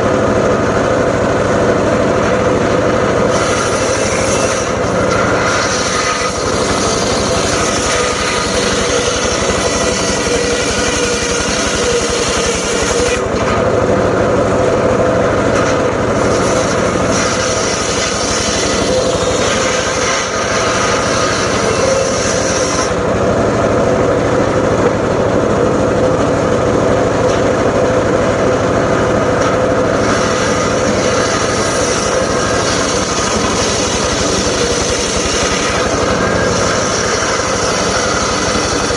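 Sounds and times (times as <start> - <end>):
circular saw running: 0.0 - 38.9.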